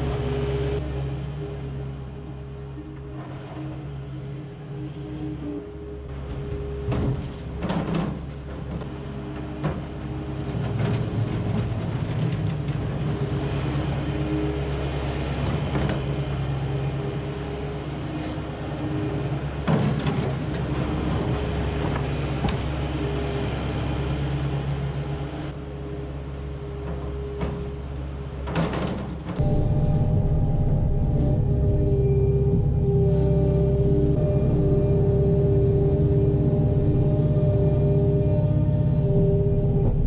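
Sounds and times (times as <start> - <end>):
loader engine running: 0.0 - 40.0.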